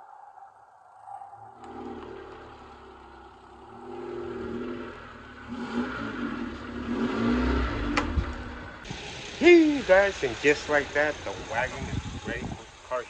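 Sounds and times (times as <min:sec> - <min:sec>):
car engine revving: 0:01.6 - 0:13.0.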